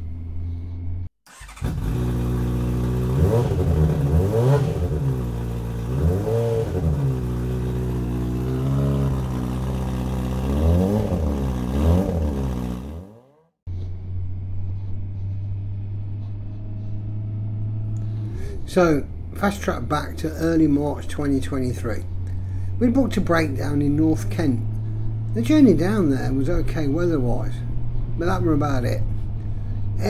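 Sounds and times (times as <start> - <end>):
low engine drone: 0.0 - 30.0
motorcycle engine revving: 0.1 - 30.0.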